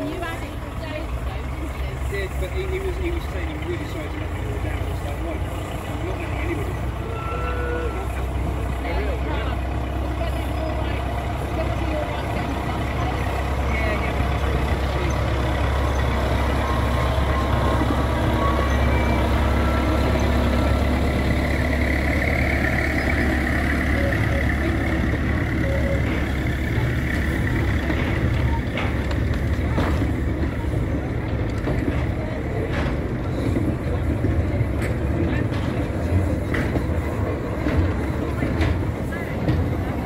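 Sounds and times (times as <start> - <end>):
diesel locomotive engine running: 0.0 - 40.0
wagon wheels clicking over rail joints: 0.0 - 40.0.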